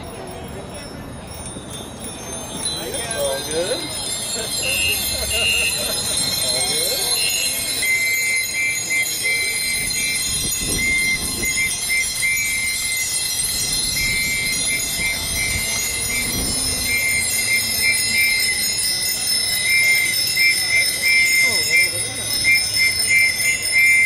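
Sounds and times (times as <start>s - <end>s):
bell-like chiming music: 0.0s - 24.0s
faint crowd voices: 0.0s - 24.0s.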